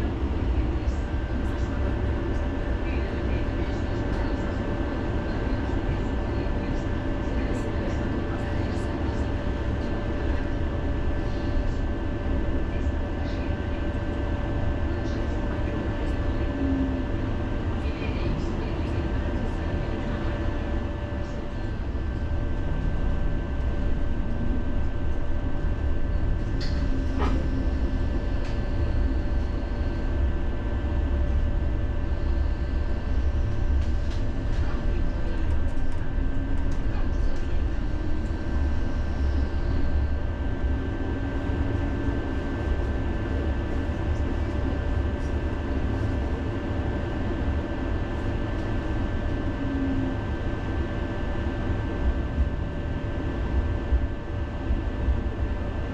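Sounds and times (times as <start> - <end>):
tram rumbling on rails: 0.0 - 54.1.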